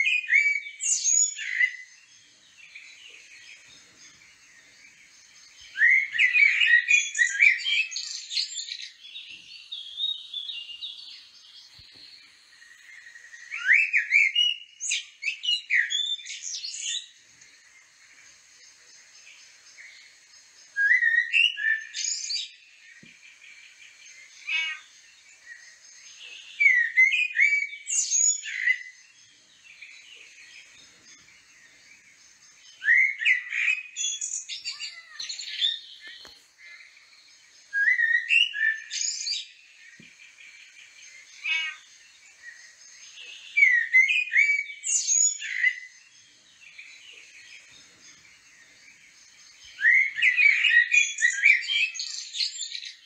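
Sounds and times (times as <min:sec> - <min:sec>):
faint high hiss: 0:00.0 - 0:53.0
songbird singing: 0:00.0 - 0:53.0.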